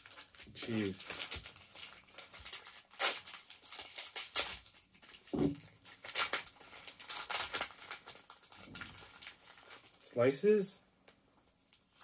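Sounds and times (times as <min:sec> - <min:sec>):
packaging crinkling and tearing: 0:00.0 - 0:10.2.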